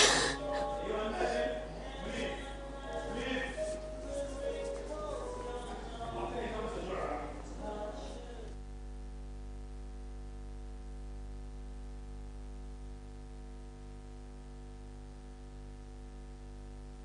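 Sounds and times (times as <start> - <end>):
steady hum with overtones: 0.0 - 17.0.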